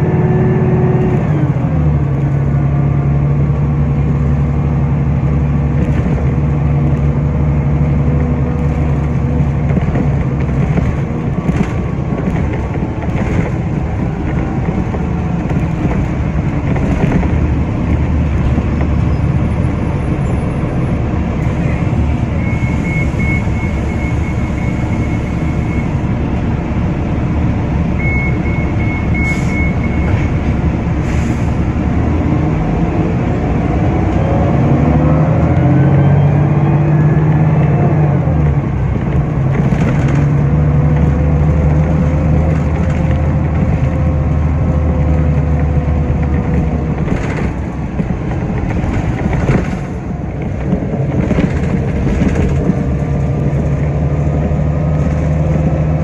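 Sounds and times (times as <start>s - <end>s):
bus engine hum: 0.0s - 56.0s
tyre road rumble: 0.0s - 56.0s.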